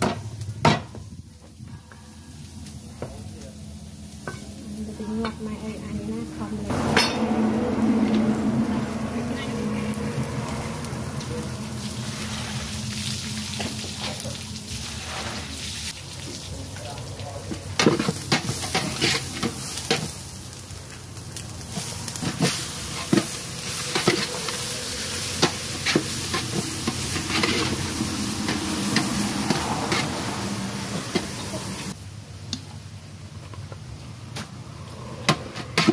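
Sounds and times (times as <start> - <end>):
food sizzling in a pot: 2.0 - 33.0.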